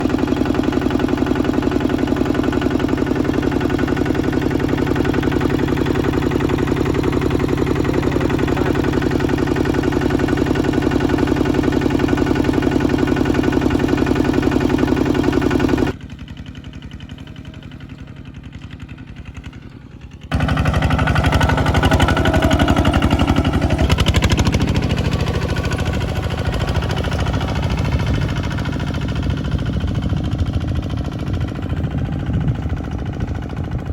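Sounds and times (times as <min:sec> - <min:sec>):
bulldozer engine running: 0:00.0 - 0:33.9.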